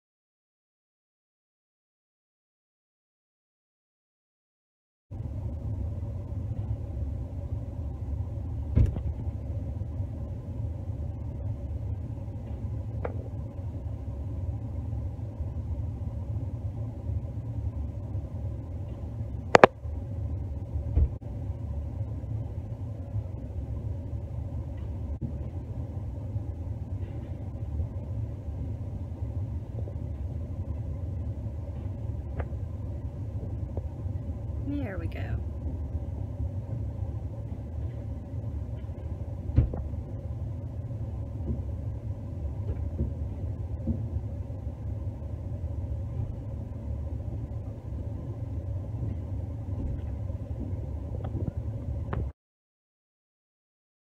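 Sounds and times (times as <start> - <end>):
vehicle idling rumble: 5.1 - 52.3.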